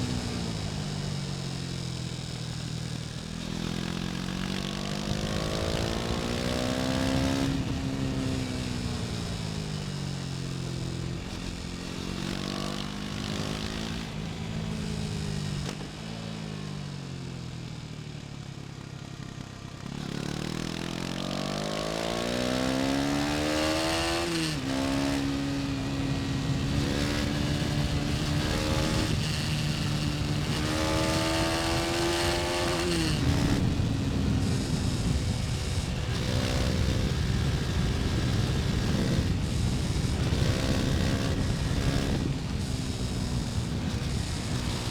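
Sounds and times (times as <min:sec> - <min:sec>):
wind and road noise: 0:00.0 - 0:17.7, 0:18.4 - 0:44.9
motorcycle engine revving: 0:00.0 - 0:44.9.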